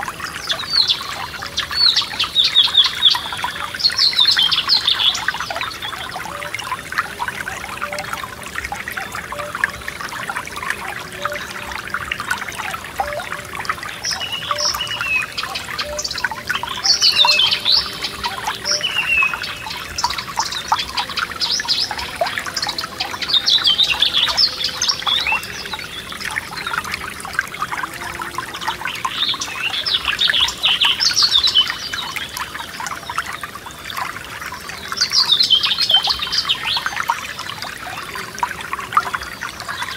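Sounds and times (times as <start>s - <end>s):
songbirds singing: 0.0s - 39.9s
stream trickling over stones: 0.0s - 39.9s.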